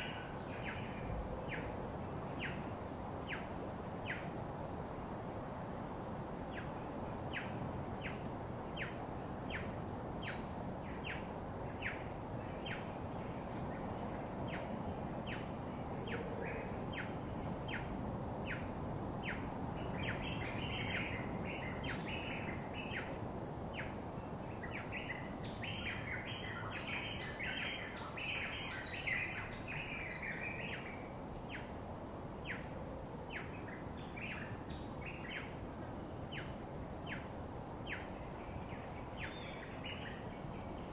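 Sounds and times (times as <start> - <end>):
steady low hiss: 0.0 - 40.9.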